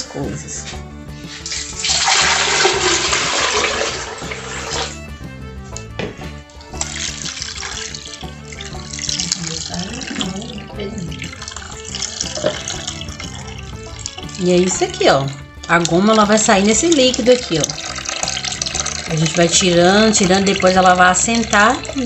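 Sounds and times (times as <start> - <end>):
background music: 0.0 - 22.0
liquid trickling into plastic bowl: 1.2 - 5.0, 6.5 - 22.0
liquid splashing into cloth strainer: 1.2 - 5.2, 6.5 - 22.0.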